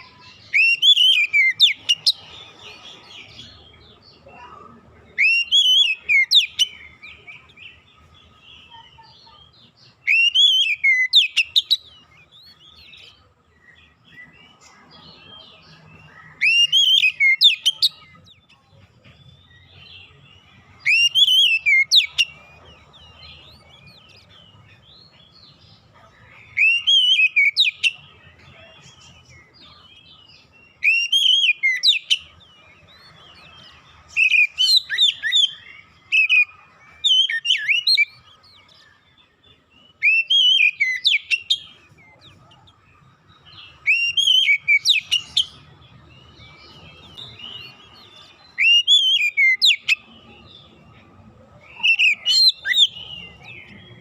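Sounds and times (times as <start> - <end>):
bird whistling song: 0.0 - 3.8, 4.4 - 9.1, 9.8 - 13.2, 13.9 - 18.5, 19.4 - 25.6, 26.4 - 28.7, 29.4 - 42.8, 43.4 - 54.0
bird twittering: 0.0 - 18.5, 19.4 - 54.0.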